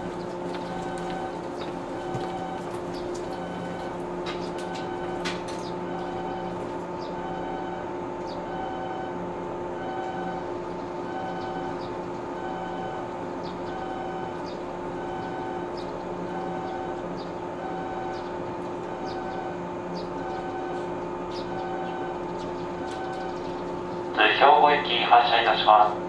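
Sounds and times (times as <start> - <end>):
train equipment humming: 0.0 - 26.0
two-tone electronic signal: 0.5 - 4.0, 4.6 - 23.4.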